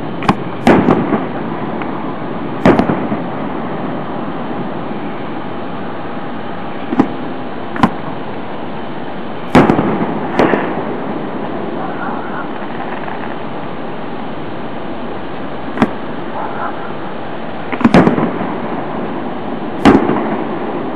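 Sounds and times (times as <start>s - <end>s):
fireworks bangs: 0.0s - 8.2s, 9.4s - 14.0s, 15.6s - 20.9s
steady background hiss: 0.0s - 20.9s.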